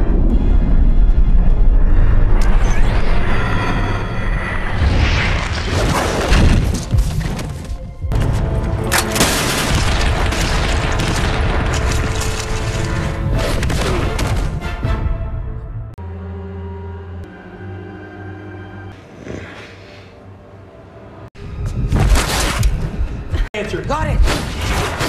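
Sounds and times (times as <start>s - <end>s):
dramatic music score: 0.0s - 25.0s.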